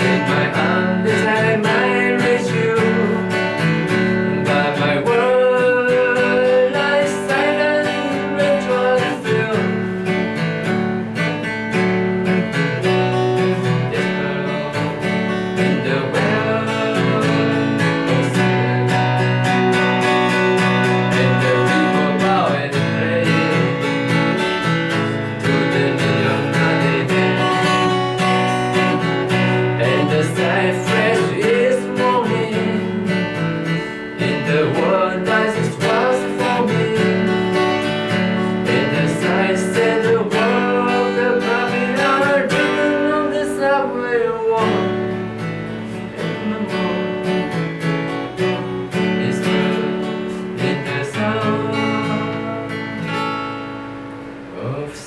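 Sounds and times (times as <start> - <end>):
acoustic guitar strummed: 0.0 - 55.0.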